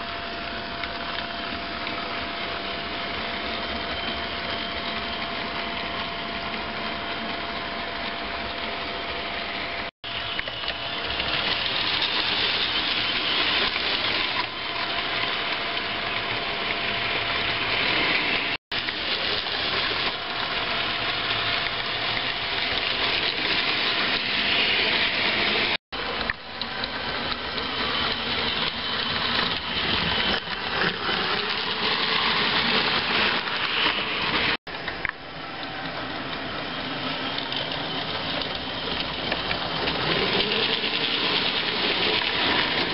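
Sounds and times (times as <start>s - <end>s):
model train motors whirring: 0.0s - 42.9s.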